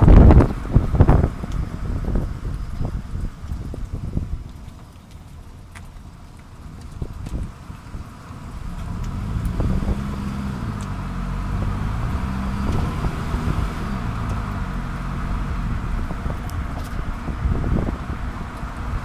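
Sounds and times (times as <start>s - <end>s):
low droning hum: 0.0s - 19.0s
tyre and road rumble: 0.0s - 19.0s.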